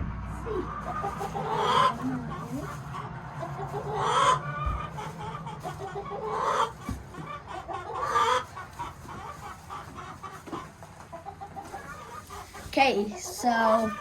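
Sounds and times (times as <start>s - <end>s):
hens clucking: 0.1s - 14.0s
hen drawn-out calls: 0.5s - 14.0s.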